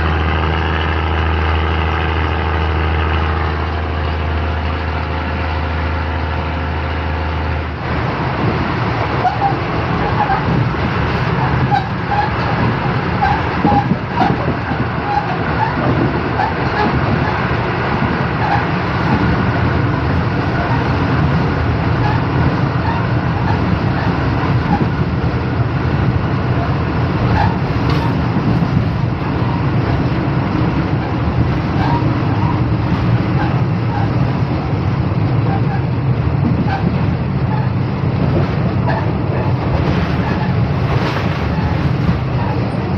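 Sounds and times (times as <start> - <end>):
train wheels rumbling on track: 0.0 - 42.9.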